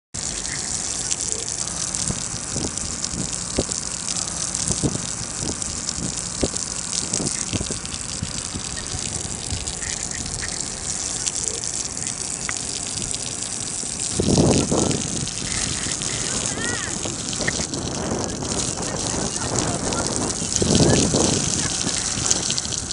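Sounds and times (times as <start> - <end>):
garden hose spraying water: 0.2 - 22.9.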